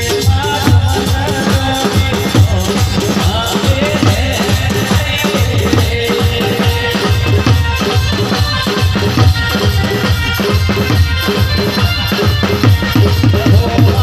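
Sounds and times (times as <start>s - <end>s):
man singing through microphone: 0.0s - 9.9s, 11.8s - 14.0s
driving drum beat: 0.0s - 14.0s
rattling percussion: 0.0s - 14.0s.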